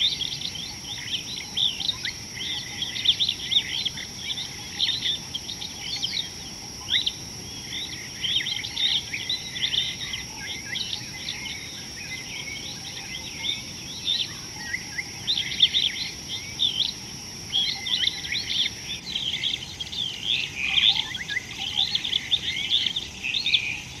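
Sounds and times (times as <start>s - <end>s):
steady high-pitched hum: 0.0s - 24.0s.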